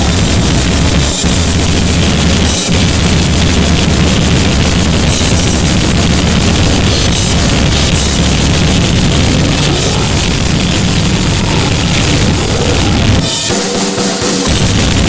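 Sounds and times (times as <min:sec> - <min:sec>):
hum-like tones: 0:00.0 - 0:13.4
harsh noise music: 0:00.0 - 0:15.0.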